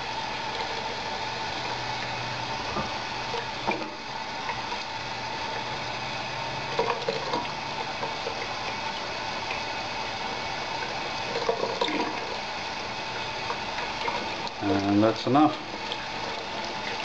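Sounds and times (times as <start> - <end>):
tap water running into a sink: 0.0 - 17.0.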